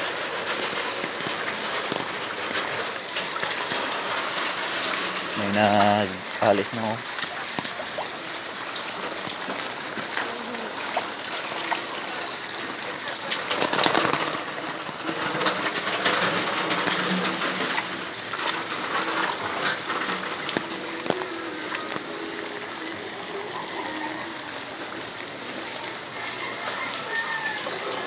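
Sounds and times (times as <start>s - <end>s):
heavy rain splashing into floodwater: 0.0s - 28.0s.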